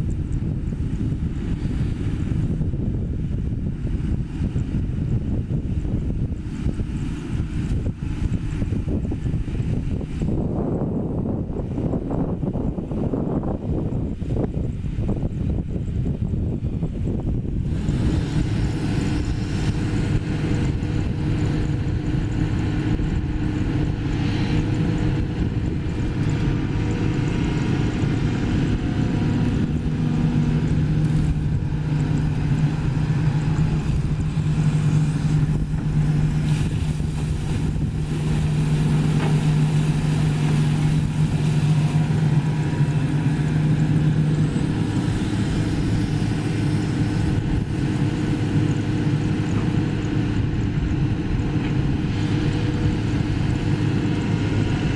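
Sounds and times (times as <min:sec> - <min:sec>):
excavator diesel engine running: 0:00.0 - 0:54.9
steady low hum: 0:00.0 - 0:54.9.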